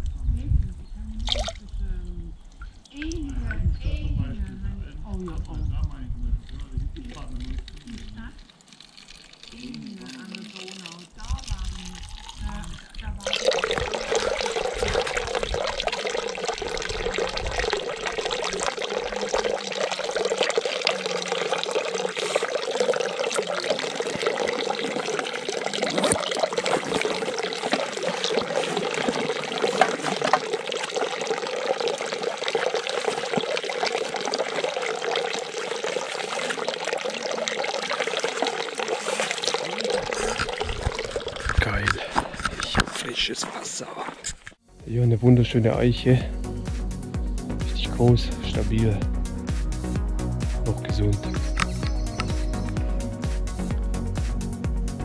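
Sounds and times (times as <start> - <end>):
running water: 1.1 - 44.6, 45.3 - 53.8.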